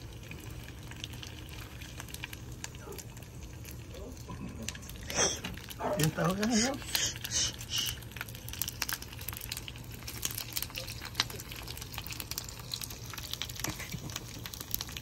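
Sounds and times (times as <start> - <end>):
hot oil crackling and popping: 0.0 - 15.0.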